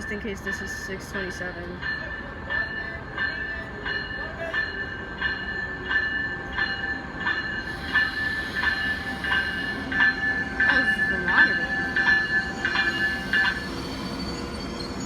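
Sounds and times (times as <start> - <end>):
train wheel squeal: 1.9 - 15.0.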